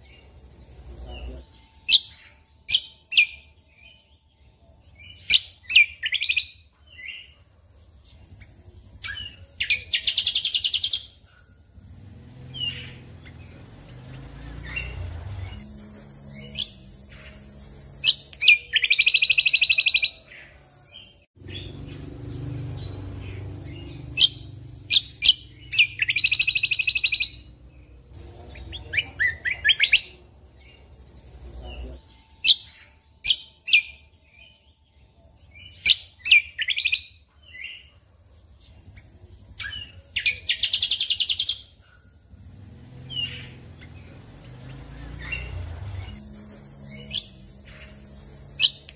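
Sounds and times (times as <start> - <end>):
songbird chirping and trilling: 0.0 - 48.9.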